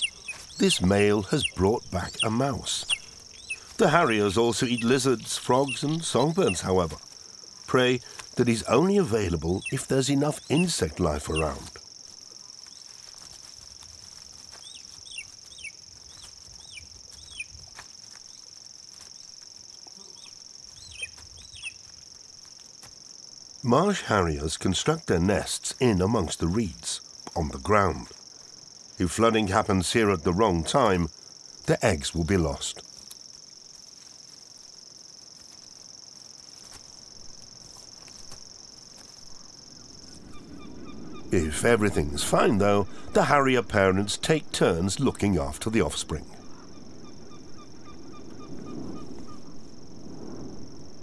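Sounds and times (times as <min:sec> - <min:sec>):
insect high-pitched trill: 0:00.0 - 0:51.0.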